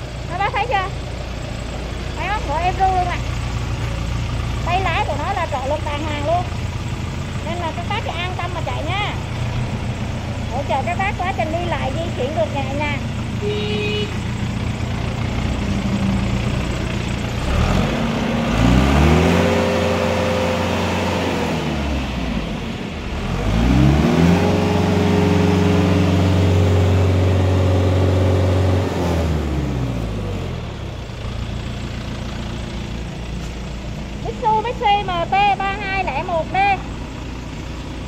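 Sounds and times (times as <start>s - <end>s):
tractor diesel engine revving: 0.0s - 38.0s.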